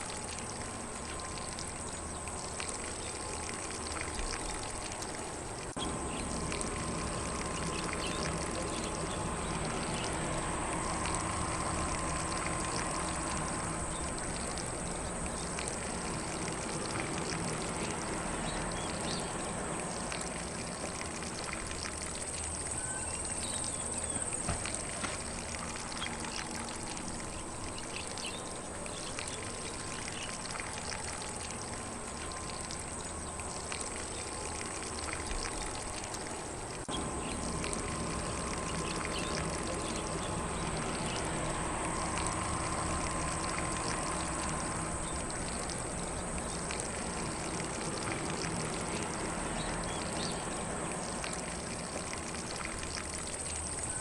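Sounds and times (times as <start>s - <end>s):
lawn sprinkler spraying water: 0.0s - 54.0s.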